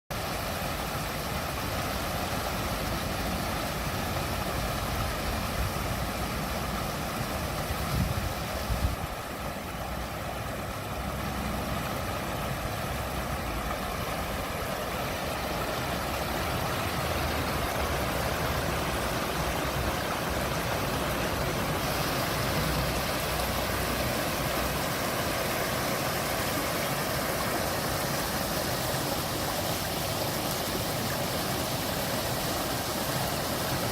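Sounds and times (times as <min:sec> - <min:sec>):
water rushing in water feature: 0:00.1 - 0:33.9.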